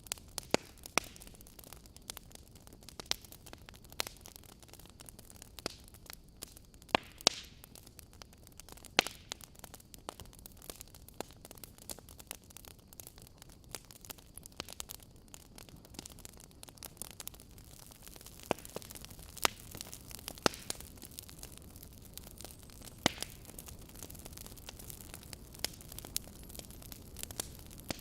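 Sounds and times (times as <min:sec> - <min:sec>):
soft steady hiss: 0:00.0 - 0:28.0
wood fire crackling and popping: 0:00.0 - 0:28.0.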